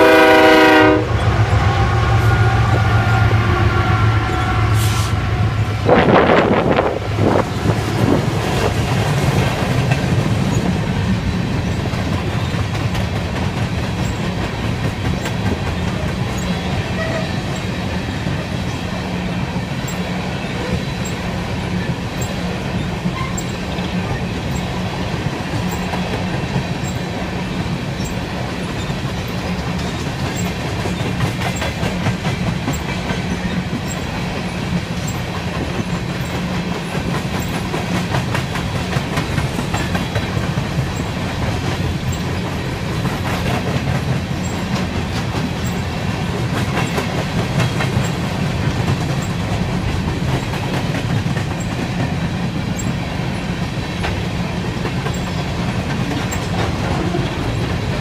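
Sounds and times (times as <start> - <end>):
freight train rumbling past: 0.0 - 58.0
wheels clacking over rail joints: 6.0 - 58.0.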